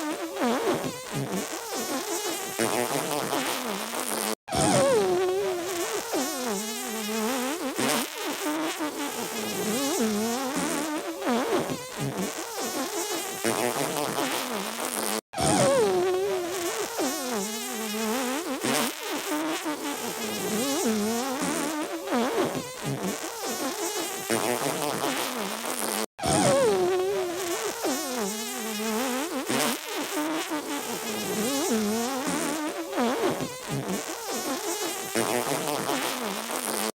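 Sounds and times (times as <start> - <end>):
sneeze and fart sound effect: 0.0 - 36.9.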